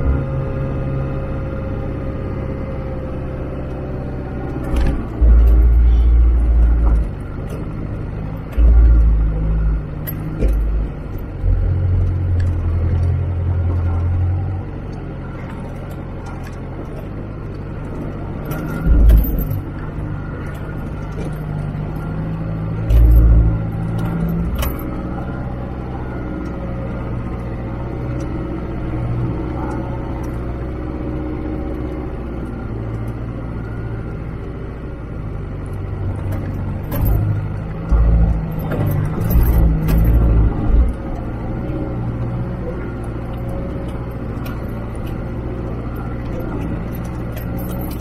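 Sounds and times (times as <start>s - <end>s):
rattles and knocks of loose gear: 0.0s - 48.0s
vehicle engine drone: 0.0s - 48.0s
vehicle lurching over bumps: 0.0s - 48.0s.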